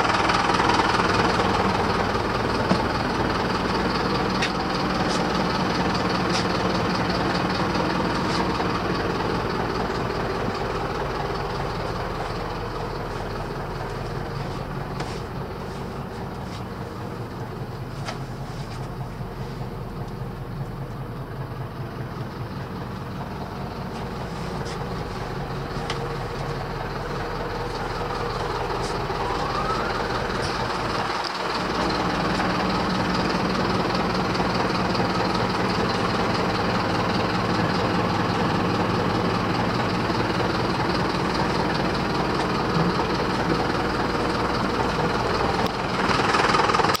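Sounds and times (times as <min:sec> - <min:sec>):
diesel bus engine idling: 0:00.0 - 0:47.0.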